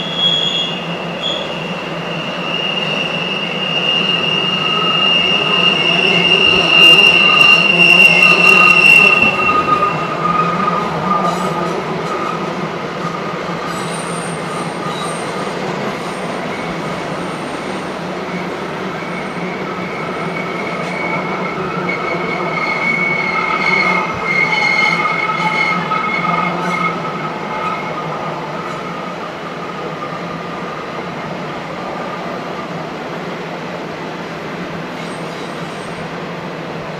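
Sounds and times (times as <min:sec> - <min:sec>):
train wheels squealing: 0:00.0 - 0:30.9, 0:35.0 - 0:36.2.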